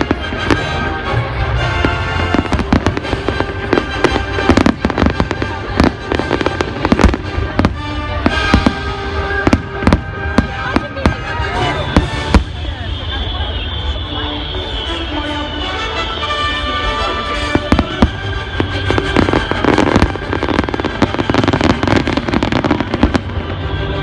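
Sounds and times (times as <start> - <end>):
music with sustained notes: 0.0 - 12.6, 14.0 - 24.0
fireworks bangs and cracks: 0.0 - 14.8, 16.6 - 24.0.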